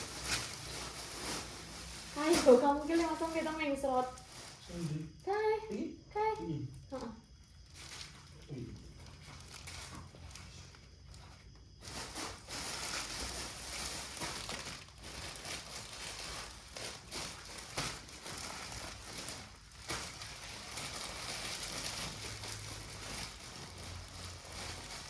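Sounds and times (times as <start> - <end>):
plastic packaging crinkling: 0.0 - 5.3, 6.4 - 25.0.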